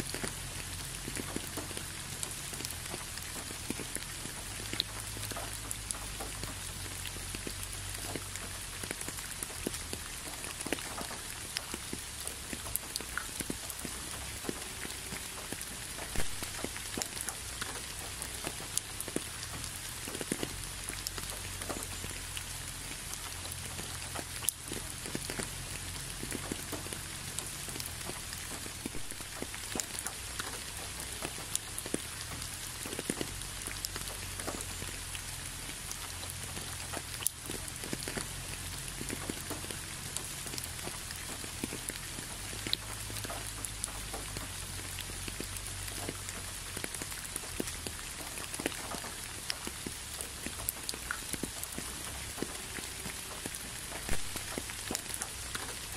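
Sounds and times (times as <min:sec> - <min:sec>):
raindrops ticking: 0:00.0 - 0:55.9
steady rain hiss: 0:00.0 - 0:55.9.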